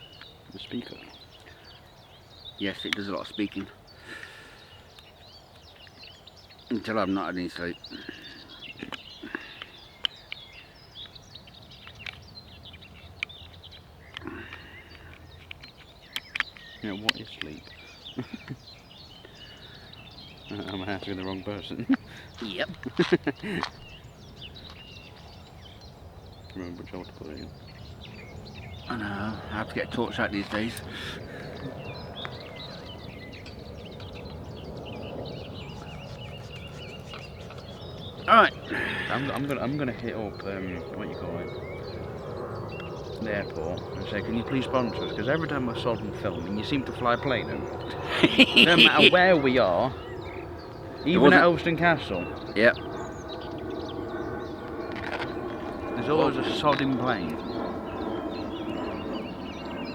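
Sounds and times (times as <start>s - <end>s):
birds chirping and whistling: 0.0s - 59.9s
steady low hum: 10.8s - 59.9s.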